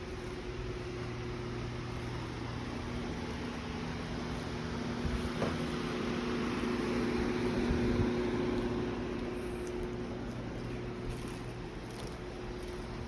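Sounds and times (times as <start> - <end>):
machine hum with hiss: 0.0 - 13.0.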